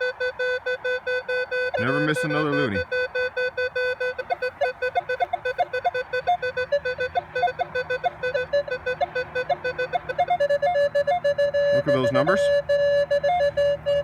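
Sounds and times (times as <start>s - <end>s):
metal detector beeping tone: 0.0s - 14.0s.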